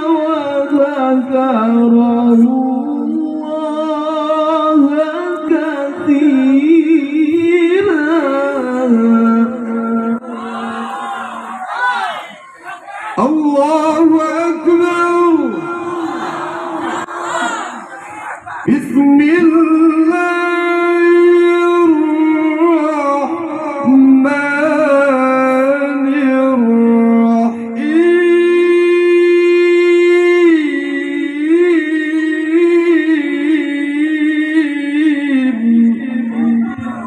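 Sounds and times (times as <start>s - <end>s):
man reciting melodically: 0.0s - 11.6s, 12.4s - 37.0s.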